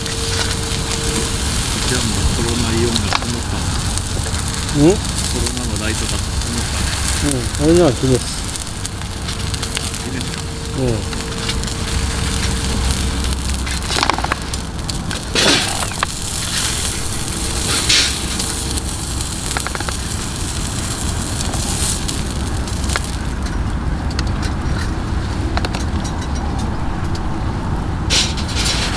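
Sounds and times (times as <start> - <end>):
campfire crackling: 0.0 - 28.9
fire snaps: 0.0 - 28.9
low rumble: 0.0 - 28.9.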